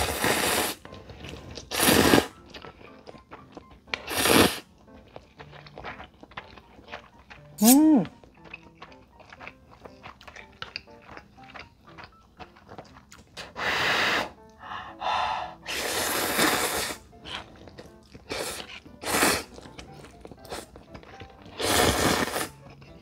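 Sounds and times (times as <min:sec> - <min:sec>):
noodles slurped: 0:00.0 - 0:03.2, 0:04.0 - 0:14.5, 0:15.6 - 0:23.0
quiet background music: 0:00.0 - 0:23.0.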